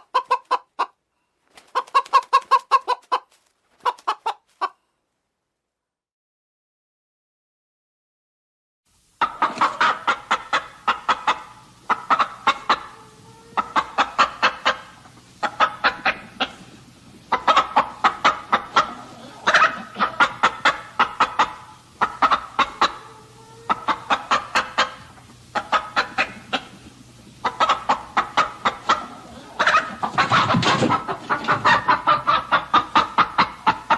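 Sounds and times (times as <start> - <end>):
chicken clucking: 0.0 - 4.8, 9.2 - 33.9.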